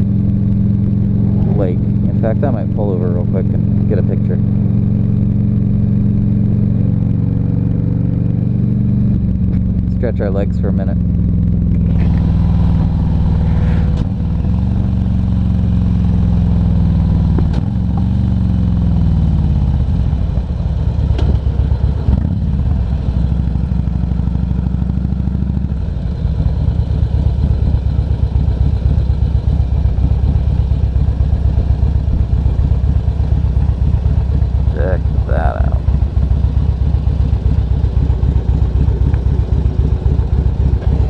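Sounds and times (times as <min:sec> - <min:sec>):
motorcycle engine slowing and idling: 0:00.0 - 0:41.0.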